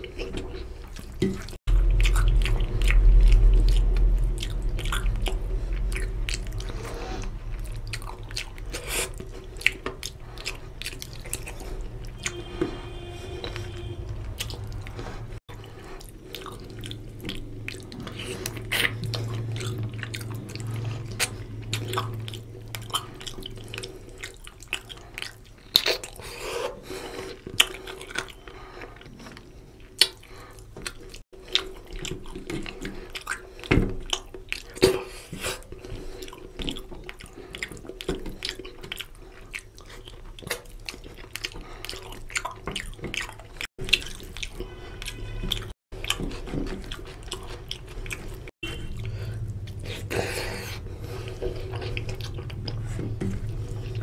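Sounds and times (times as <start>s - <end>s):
chewing and wet mouth smacking: 0.0s - 54.0s.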